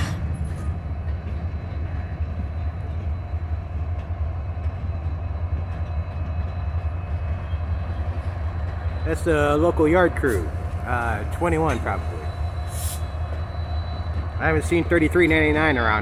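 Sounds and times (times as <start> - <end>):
freight cars rolling by: 0.0 - 16.0.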